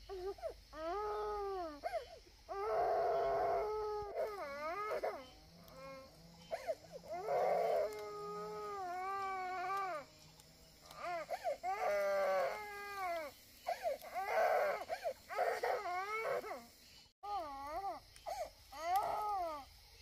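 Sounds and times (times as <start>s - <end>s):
small child crying: 0.1s - 10.1s, 10.9s - 19.7s.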